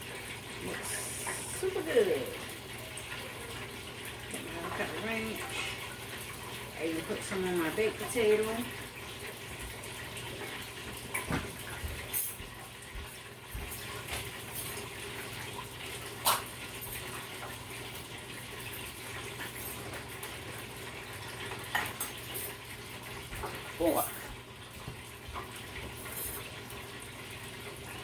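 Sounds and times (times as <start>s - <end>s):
oil sizzling in a deep fryer: 0.0s - 28.0s.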